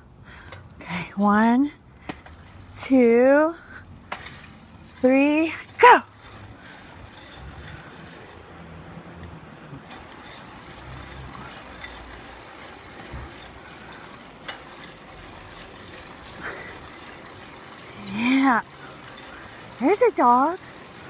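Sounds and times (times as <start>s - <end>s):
bike rolling on pavement: 0.0s - 21.0s
bike rattling and ticking: 1.8s - 21.0s.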